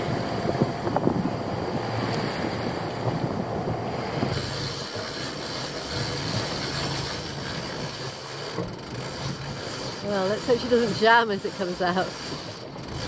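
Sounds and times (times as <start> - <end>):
boat engine drone: 0.0 - 13.0
water rushing along hull: 0.0 - 13.0
wind noise on microphone: 0.0 - 13.0.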